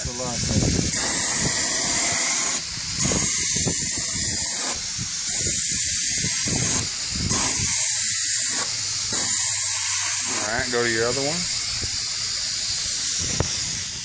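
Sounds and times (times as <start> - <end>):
spray can hissing: 0.0 - 14.0.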